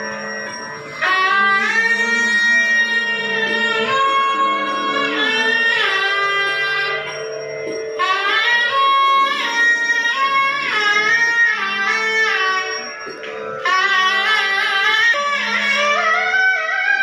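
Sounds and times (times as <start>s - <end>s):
steady drone: 0.0s - 16.4s
double-reed pipe melody: 0.0s - 17.0s.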